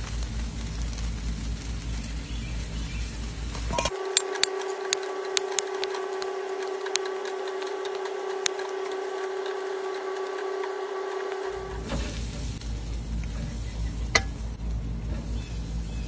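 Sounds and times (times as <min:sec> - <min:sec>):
steady mid-pitched hum: 0:00.0 - 0:16.0.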